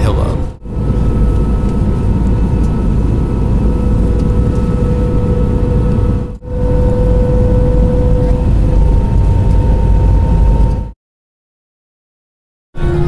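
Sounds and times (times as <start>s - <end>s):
airliner cabin engine drone: 0.0s - 11.0s, 12.8s - 13.0s.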